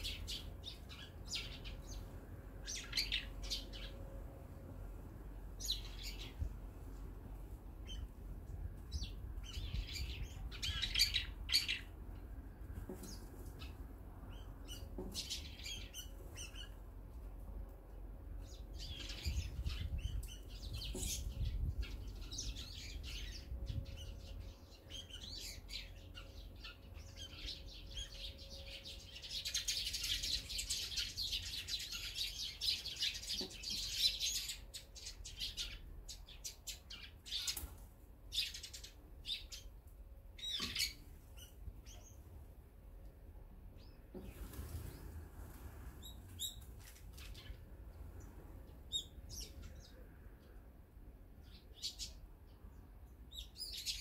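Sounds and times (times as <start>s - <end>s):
sparrows chirping: 0.0s - 4.0s, 5.5s - 6.6s, 7.8s - 16.9s, 18.3s - 42.4s, 45.9s - 50.6s, 51.3s - 54.0s.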